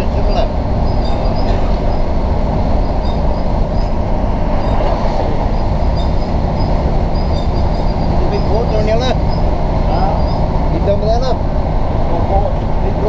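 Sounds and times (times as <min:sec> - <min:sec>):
train rumbling from inside carriage: 0:00.0 - 0:13.0.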